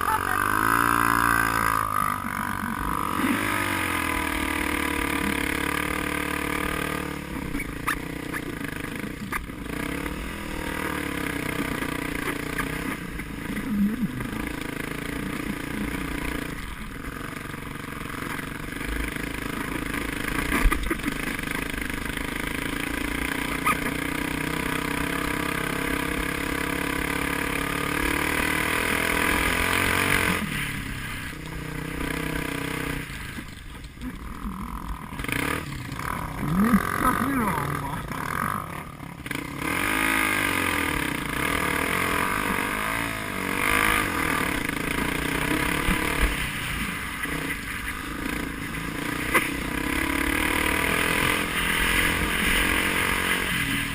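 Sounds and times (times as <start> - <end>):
vehicle engine revving: 0.0 - 53.9.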